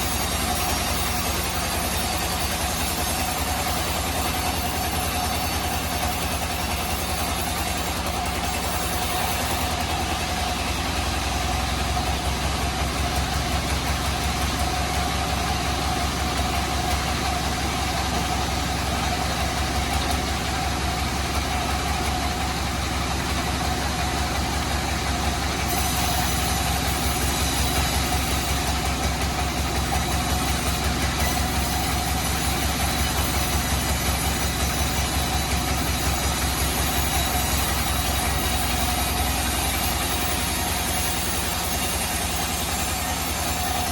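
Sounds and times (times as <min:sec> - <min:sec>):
bandsaw sawmill running: 0:00.0 - 0:43.9.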